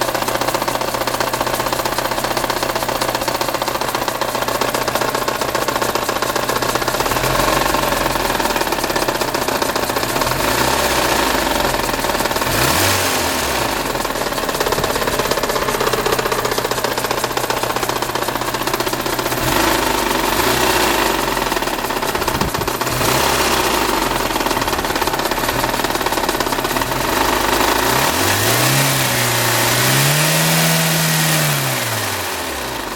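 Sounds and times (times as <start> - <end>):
car engine running: 0.0 - 32.9
rapid ticking from engine: 0.0 - 32.9.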